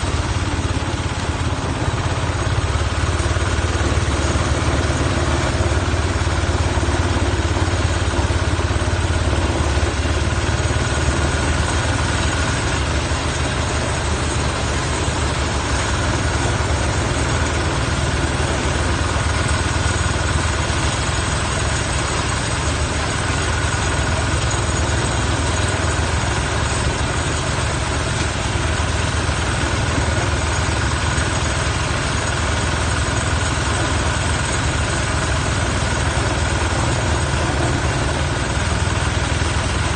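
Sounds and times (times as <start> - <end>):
machinery engine droning: 0.0 - 39.9.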